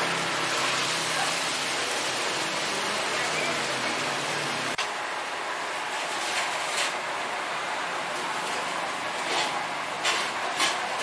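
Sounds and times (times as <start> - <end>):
food sizzling in a wok: 0.0 - 11.0
kitchen voices: 0.0 - 11.0.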